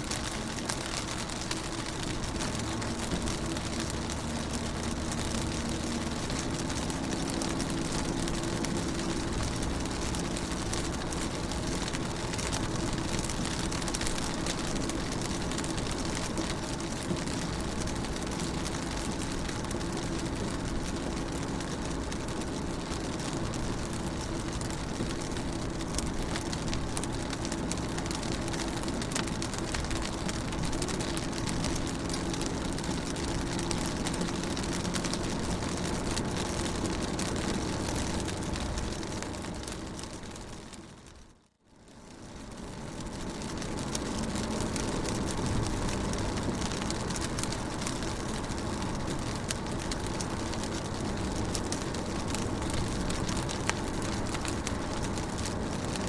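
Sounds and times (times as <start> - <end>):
rain on car windows: 0.0 - 56.0.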